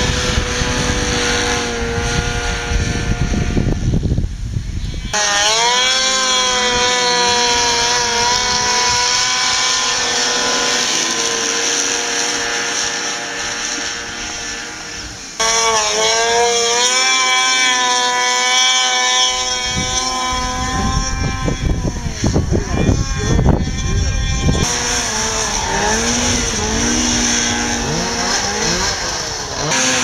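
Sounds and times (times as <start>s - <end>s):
snowmobile engines revving: 0.0s - 4.1s, 4.8s - 30.0s.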